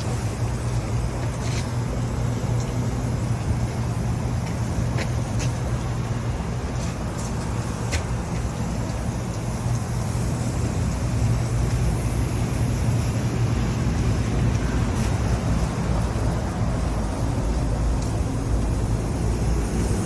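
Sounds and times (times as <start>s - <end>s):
rooftop units humming: 0.0s - 20.0s.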